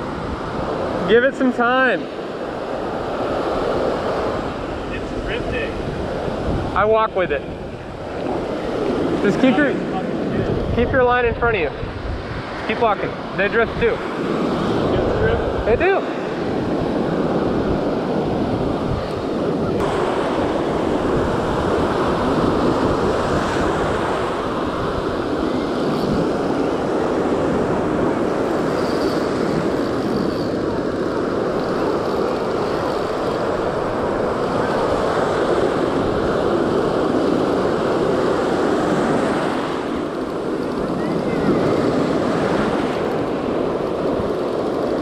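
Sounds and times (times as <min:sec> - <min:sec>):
ocean surf breaking: 0:00.0 - 0:45.0
wind noise on microphone: 0:02.2 - 0:45.0.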